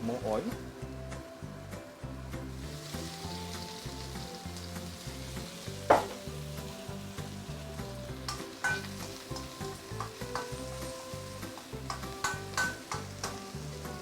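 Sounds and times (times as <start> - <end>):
onion sizzling in hot oil: 0.0 - 14.0.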